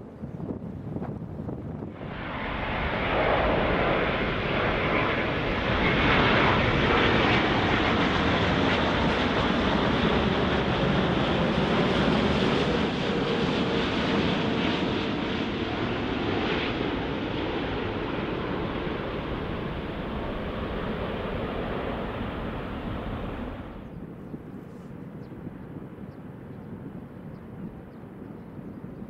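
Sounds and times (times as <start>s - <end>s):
jet engines rushing overhead: 0.0s - 29.0s.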